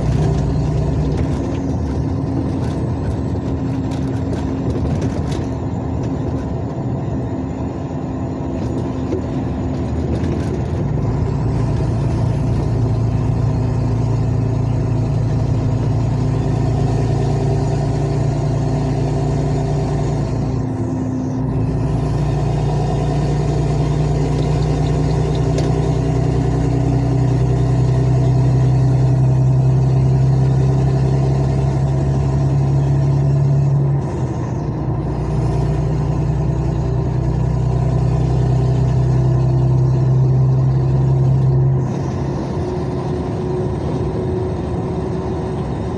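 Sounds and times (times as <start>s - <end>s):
truck diesel engine humming: 0.0s - 45.9s.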